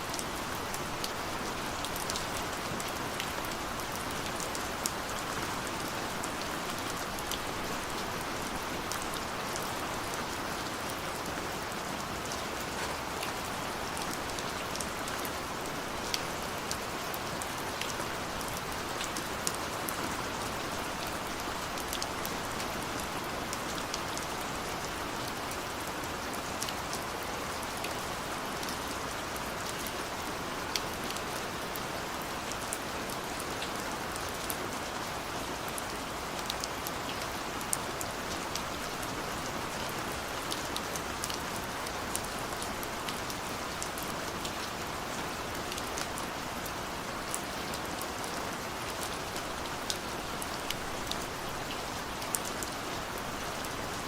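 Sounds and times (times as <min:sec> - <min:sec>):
rain on a window: 0:00.0 - 0:54.0.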